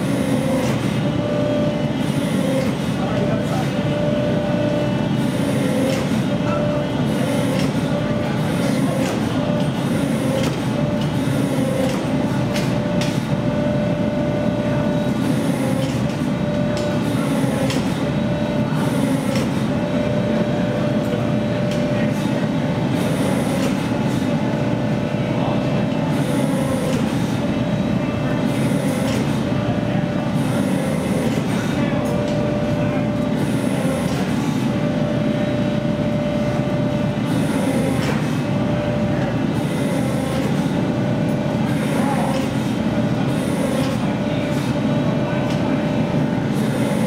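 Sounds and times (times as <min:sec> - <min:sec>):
forging machine humming: 0:00.0 - 0:47.0.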